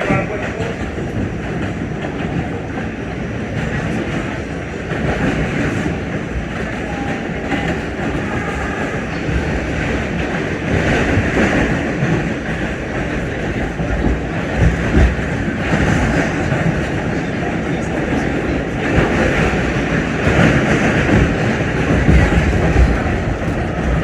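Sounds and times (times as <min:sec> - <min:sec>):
subway car wheels rumbling: 0:00.0 - 0:24.0.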